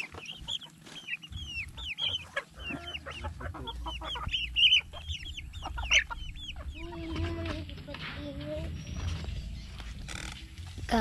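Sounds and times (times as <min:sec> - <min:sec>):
chicks peeping and clucking: 0:00.0 - 0:11.0.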